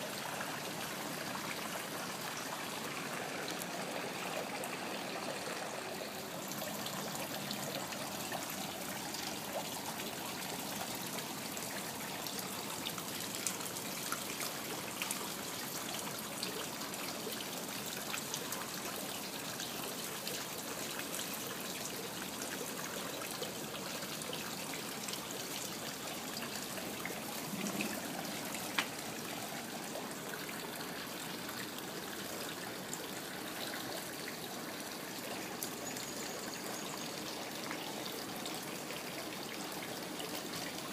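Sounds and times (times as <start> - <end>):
water trickling into pond: 0.0 - 40.9.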